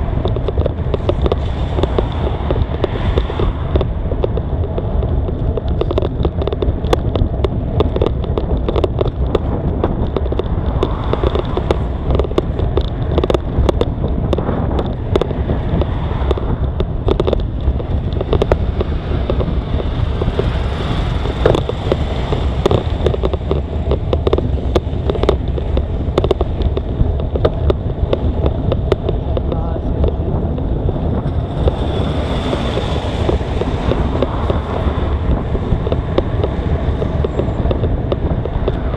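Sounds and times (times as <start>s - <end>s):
bike rattling on rough surface: 0.0s - 38.9s
wind buffeting microphone: 0.0s - 38.9s.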